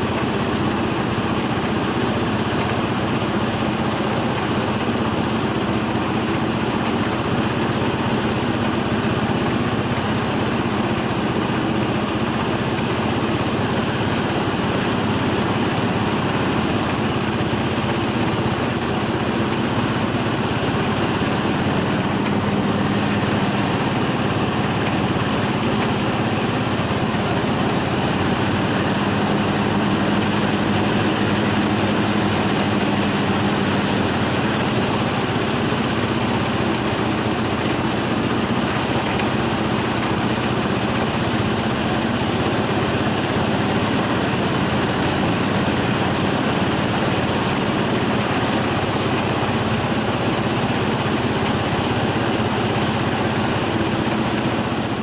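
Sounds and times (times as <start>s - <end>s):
rice thresher engine running: 0.0s - 55.0s.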